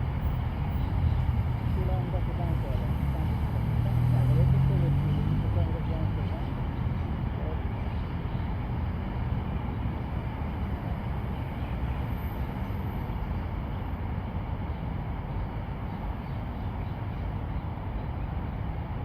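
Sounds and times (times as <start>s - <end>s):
low rumbling outdoor background noise: 0.0s - 19.0s.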